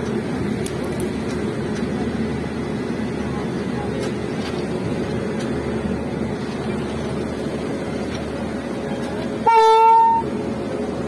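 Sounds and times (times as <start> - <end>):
locomotive idling: 0.0 - 11.0.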